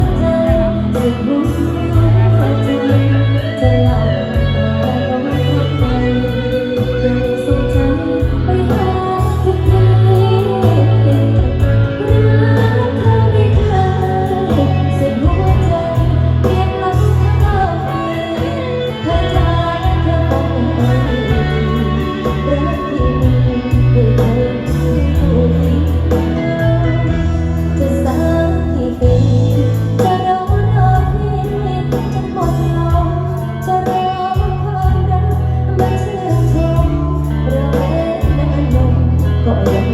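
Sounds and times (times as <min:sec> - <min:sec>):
pounding bass: 0:00.0 - 0:33.8, 0:34.4 - 0:39.9
guitar: 0:00.0 - 0:39.9
person singing: 0:00.0 - 0:39.9.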